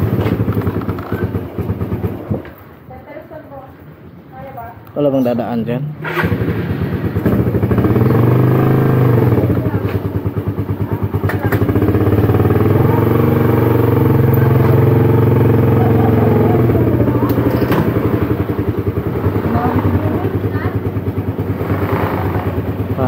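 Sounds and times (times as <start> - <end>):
motorcycle engine running: 0.0 - 2.9, 6.2 - 23.0.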